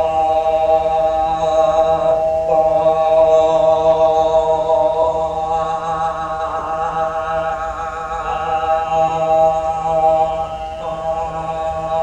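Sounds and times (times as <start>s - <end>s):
droning vocal chant over speakers: 0.0s - 12.0s.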